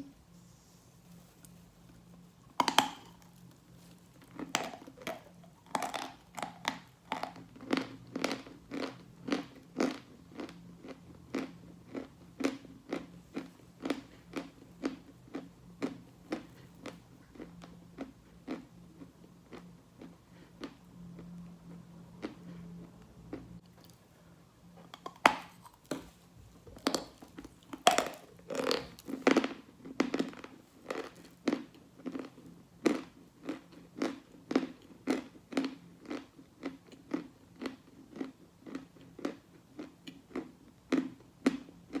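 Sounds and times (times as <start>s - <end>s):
person chewing chalk crunchily: 0.6s - 24.0s, 24.9s - 42.0s.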